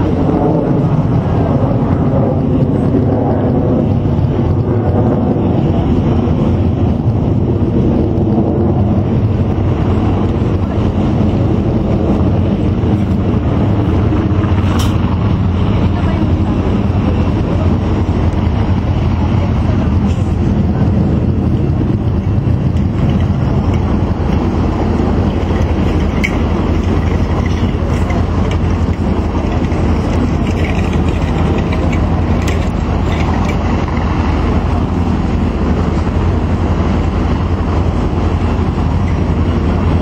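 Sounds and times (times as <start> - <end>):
low jet rumble: 0.0 - 40.0.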